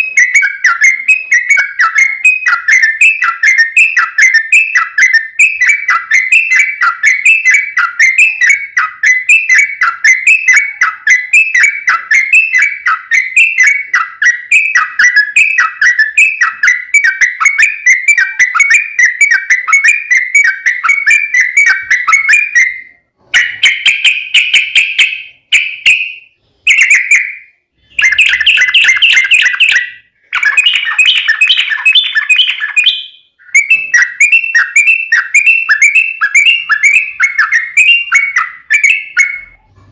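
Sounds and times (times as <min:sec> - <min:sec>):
bird chattering: 0:00.0 - 0:39.9
bird singing rapid notes: 0:00.0 - 0:39.9.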